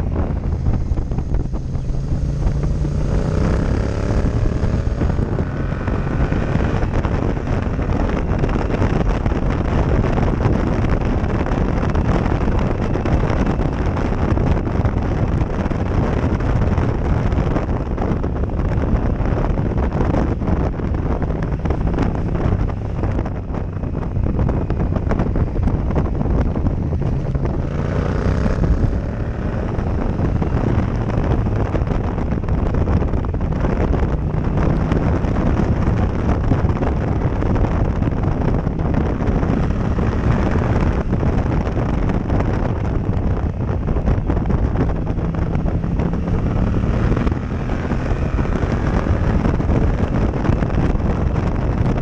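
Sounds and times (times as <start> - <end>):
motorcycle engine accelerating: 0.0 - 52.0
wind buffeting microphone: 0.0 - 52.0.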